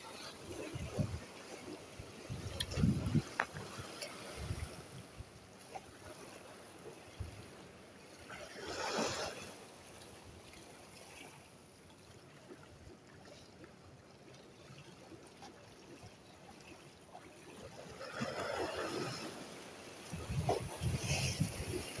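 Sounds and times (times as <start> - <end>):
waves splashing against rocks: 0.0 - 12.5, 14.8 - 22.0.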